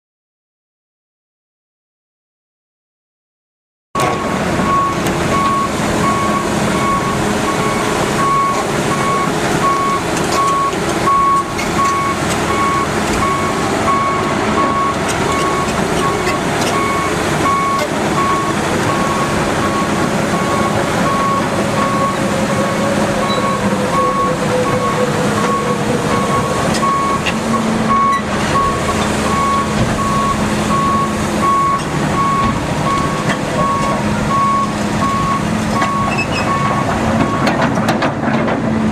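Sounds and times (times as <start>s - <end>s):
travel alarm beeping: 4.0s - 37.5s
diesel excavator engine running: 4.0s - 38.9s.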